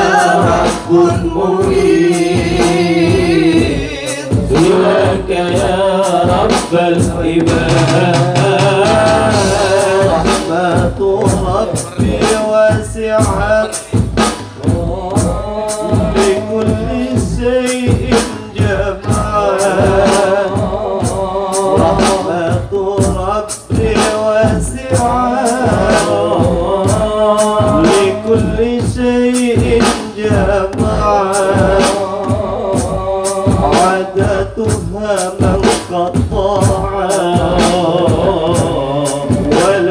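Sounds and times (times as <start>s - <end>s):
men singing devotional songs: 0.0s - 39.9s
steady beat: 0.0s - 39.9s.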